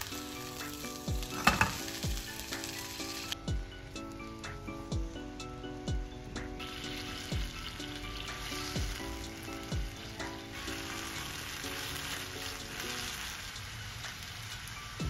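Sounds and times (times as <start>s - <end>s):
food sizzling in a hot pan: 0.0s - 5.8s, 6.4s - 15.0s
background music with soft beat: 0.0s - 15.0s.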